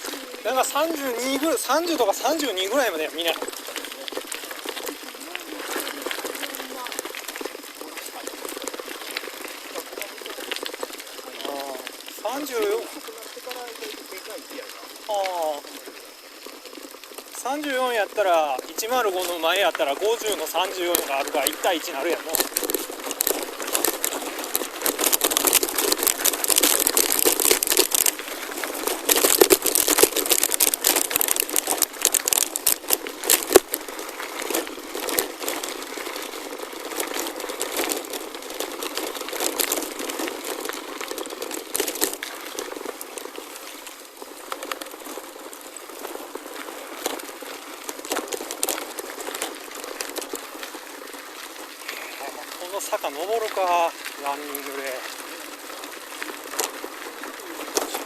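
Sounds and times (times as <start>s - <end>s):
bike tyres rolling on gravel: 0.0s - 58.0s.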